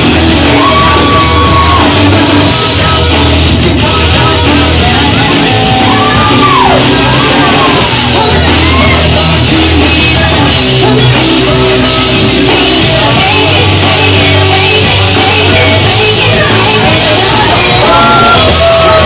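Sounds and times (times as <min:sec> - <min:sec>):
live rock music with singing: 0:00.0 - 0:19.0.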